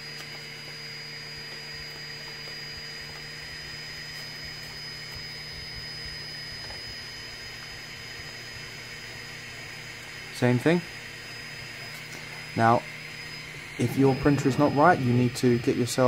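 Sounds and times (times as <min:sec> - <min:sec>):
cooling fans whirring: 0:00.0 - 0:16.0
faint high whine: 0:00.0 - 0:16.0.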